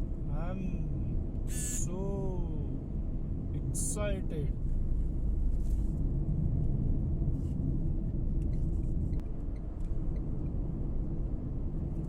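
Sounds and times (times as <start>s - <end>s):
car driving on highway: 0.0s - 12.0s.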